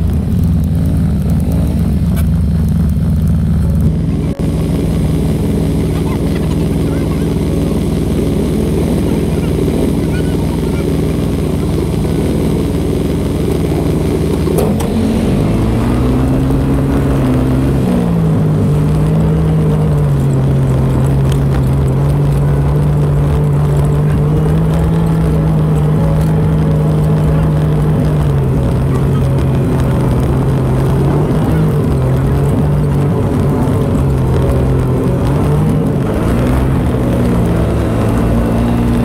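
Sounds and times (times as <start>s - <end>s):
atv engine revving: 0.0s - 39.0s
constant low rumble: 0.0s - 39.0s.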